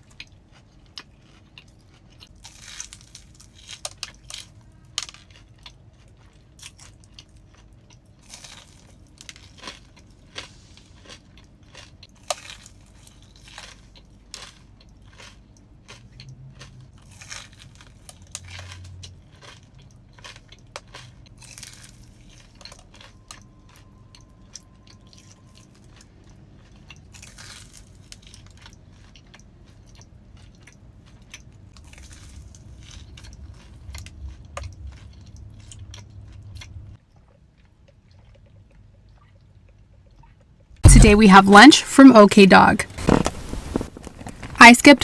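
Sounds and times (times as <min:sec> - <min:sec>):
crunching and chewing food: 0:00.0 - 0:41.0, 0:42.9 - 0:44.6.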